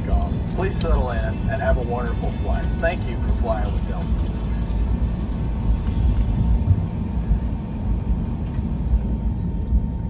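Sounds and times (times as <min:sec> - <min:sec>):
low rumble of idling jet engines: 0:00.0 - 0:10.0.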